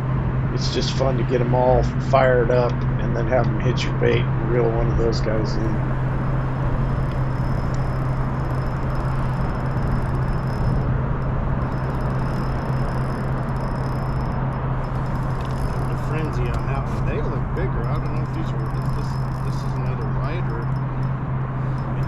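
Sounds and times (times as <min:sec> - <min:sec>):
faint high whine: 0:00.0 - 0:22.0
low mechanical hum: 0:00.0 - 0:22.0
even rushing noise: 0:03.1 - 0:22.0.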